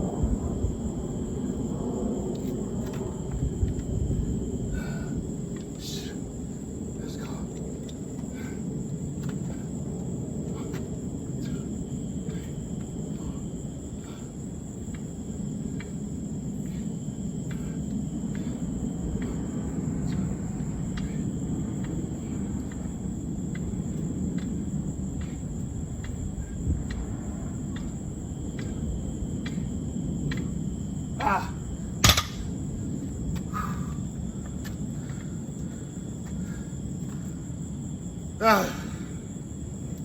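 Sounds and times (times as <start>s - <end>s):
low rumble: 0.0s - 36.2s
insects chirping: 0.0s - 40.0s.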